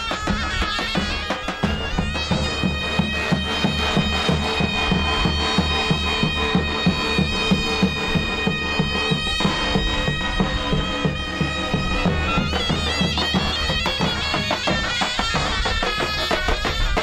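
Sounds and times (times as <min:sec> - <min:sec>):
drum beat: 0:00.0 - 0:17.0
shrill double-reed pipe: 0:00.0 - 0:17.0.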